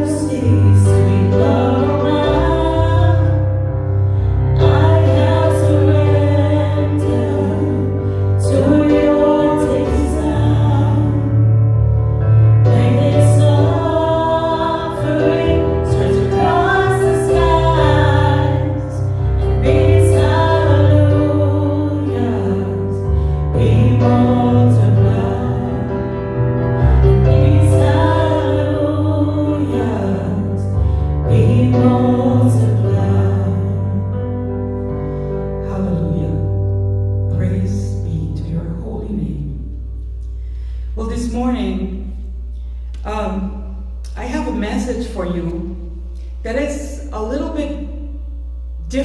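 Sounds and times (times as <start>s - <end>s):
worship song singing: 0.0s - 44.4s
instrumental accompaniment with bass: 0.0s - 44.6s.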